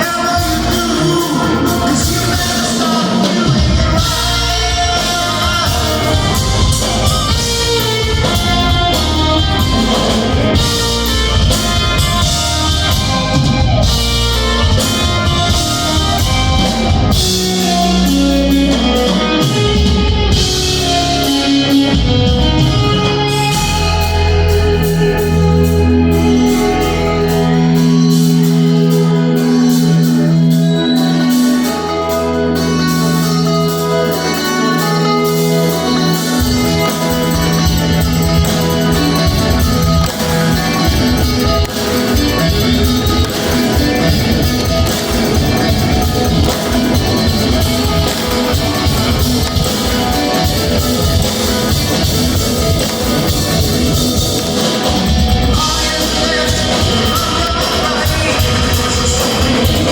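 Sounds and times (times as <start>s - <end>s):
bass line: 0.0s - 59.9s
drum kit: 0.0s - 59.9s
guitar: 0.0s - 59.9s
keyboard chords: 0.0s - 59.9s.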